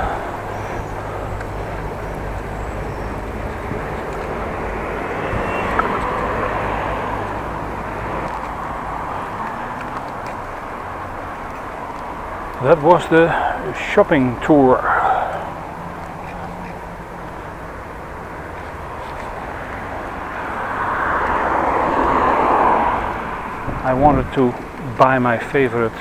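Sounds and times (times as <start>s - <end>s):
bicycle road noise: 0.0s - 26.0s
traffic noise: 0.0s - 26.0s
wind rumble: 0.0s - 26.0s.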